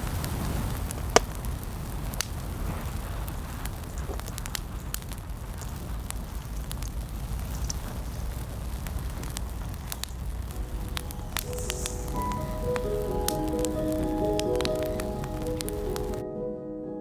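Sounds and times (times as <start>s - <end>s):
wind rumble on microphone: 0.0s - 16.2s
wood fire crackling and popping: 0.0s - 16.2s.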